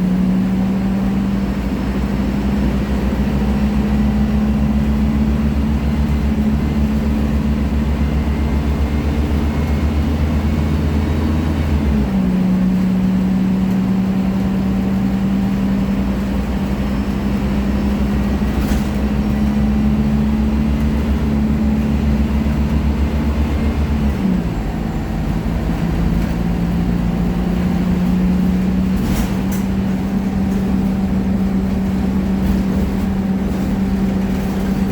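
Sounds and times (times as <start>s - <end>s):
bus diesel engine running: 0.0s - 34.9s.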